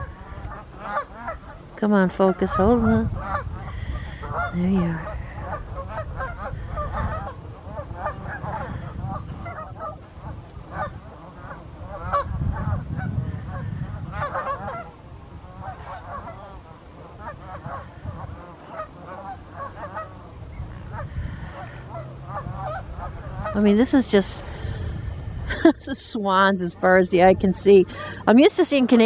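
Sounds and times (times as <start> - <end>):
flock of waterfowl honking: 0.0 - 24.9.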